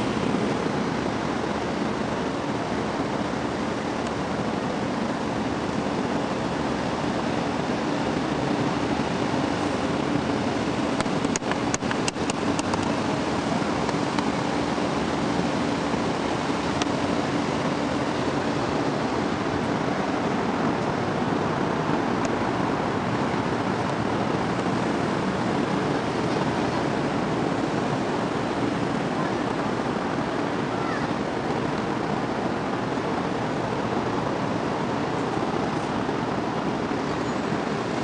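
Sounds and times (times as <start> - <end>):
low steady hum: 0.0 - 38.0
wind: 0.0 - 38.0.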